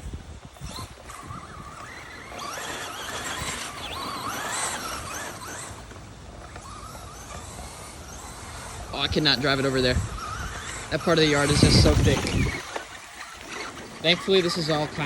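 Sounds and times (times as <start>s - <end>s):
rc truck electric motor whining: 0.0s - 15.0s.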